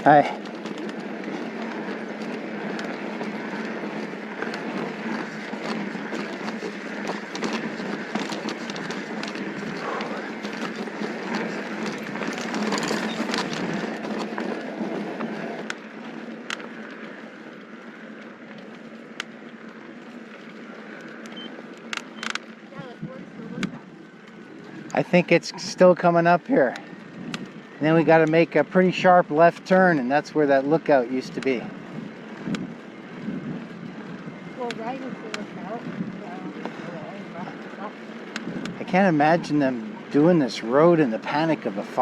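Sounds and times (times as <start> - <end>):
bike rattling clicks: 0.0 - 28.9, 29.6 - 42.0
tyres crunching on gravel: 0.0 - 42.0.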